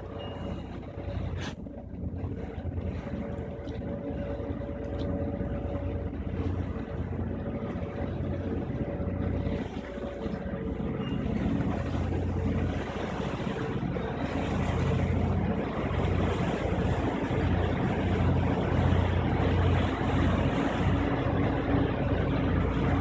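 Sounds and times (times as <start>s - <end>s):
ferry engines droning: 0.0s - 23.0s
propeller wash churning water: 0.0s - 23.0s.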